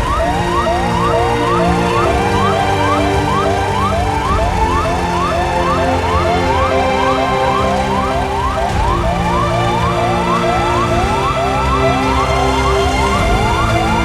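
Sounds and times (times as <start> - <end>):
emergency siren yelping: 0.0 - 14.0.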